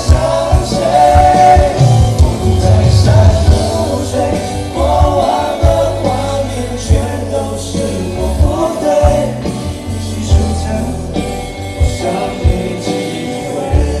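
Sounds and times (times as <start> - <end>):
live pop ballad singing: 0.0 - 14.0
sustained bass: 0.0 - 14.0.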